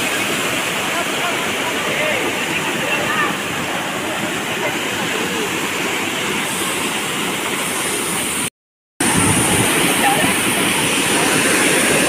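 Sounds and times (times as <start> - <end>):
waterfall rushing onto rock: 0.0 - 12.0.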